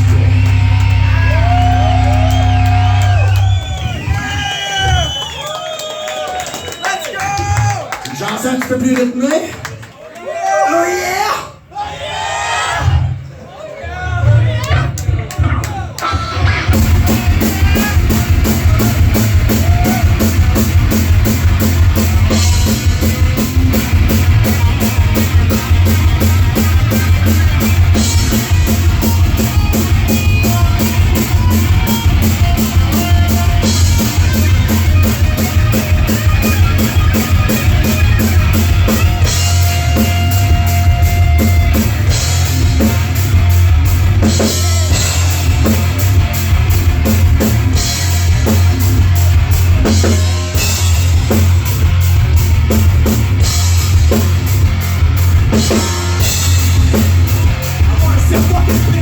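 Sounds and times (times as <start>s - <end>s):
live rock band playing: 0.0s - 5.4s, 14.3s - 59.0s.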